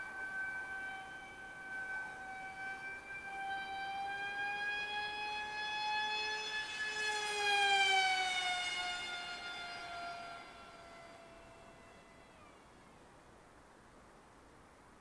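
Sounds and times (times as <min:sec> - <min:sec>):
electric motor and propeller whining: 0:00.0 - 0:13.1.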